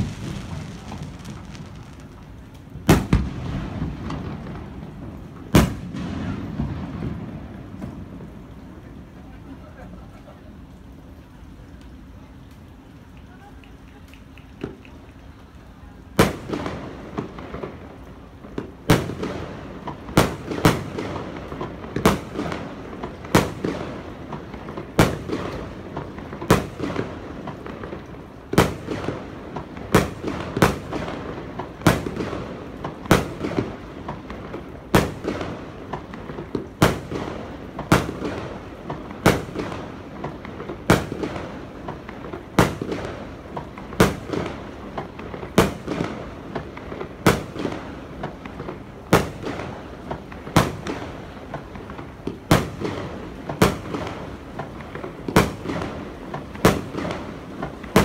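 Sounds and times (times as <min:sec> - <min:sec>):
fireworks bursting with echo: 0:00.0 - 0:58.0.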